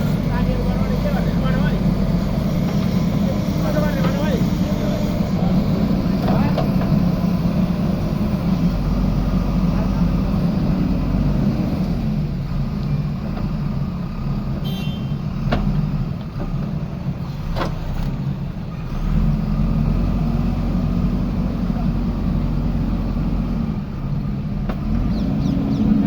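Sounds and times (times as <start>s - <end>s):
diesel engine digging: 0.0s - 26.0s.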